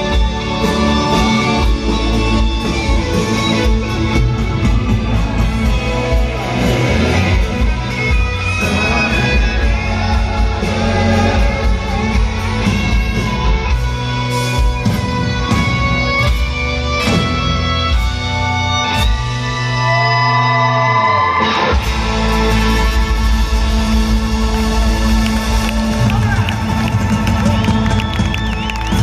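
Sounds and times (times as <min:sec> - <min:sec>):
electric guitar: 0:00.0 - 0:29.0
live rock band: 0:00.0 - 0:29.0.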